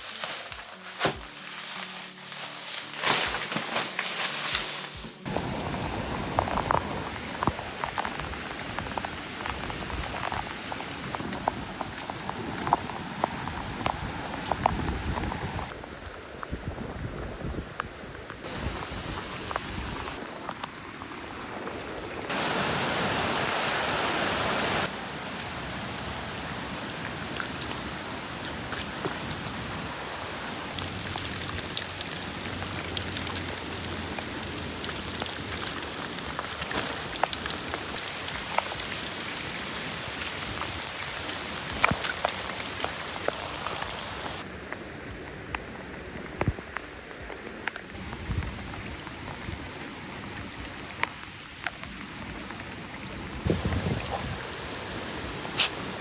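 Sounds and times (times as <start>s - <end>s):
heavy rain hissing: 1.4s - 15.7s, 18.4s - 44.4s, 48.0s - 56.0s.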